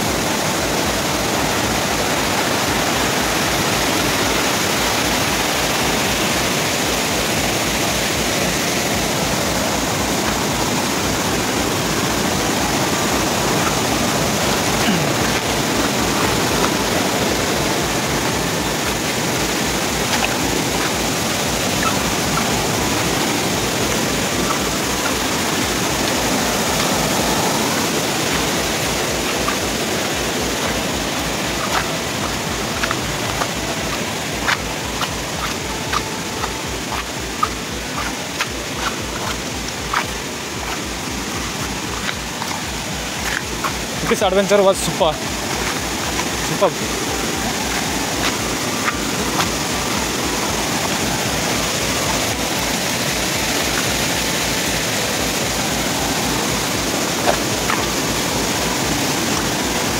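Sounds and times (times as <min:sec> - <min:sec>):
water rushing over boulders: 0:00.0 - 0:59.9.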